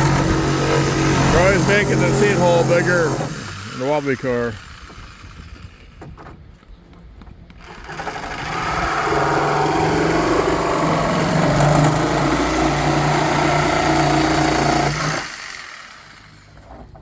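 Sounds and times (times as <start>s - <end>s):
handheld power tool cutting: 0.0s - 6.1s, 7.6s - 16.6s.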